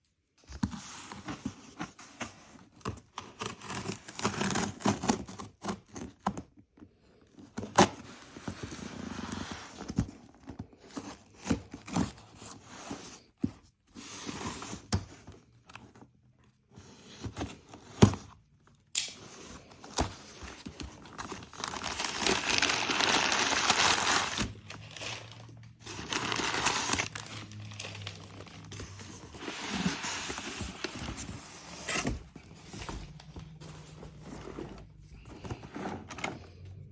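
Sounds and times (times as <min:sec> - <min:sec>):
cardboard and plastic crinkling: 0:00.4 - 0:18.4, 0:19.2 - 0:36.9.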